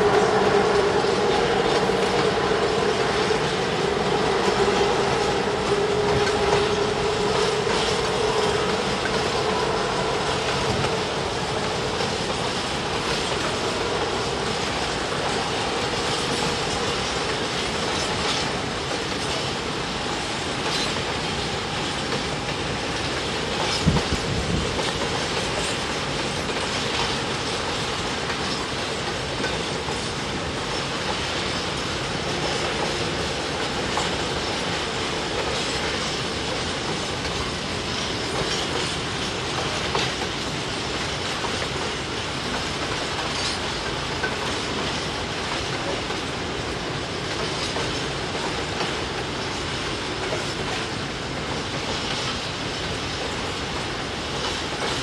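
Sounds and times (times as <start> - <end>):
train wheels rumbling on rails: 0.0 - 55.0
wheels clicking over rail joints: 0.1 - 55.0.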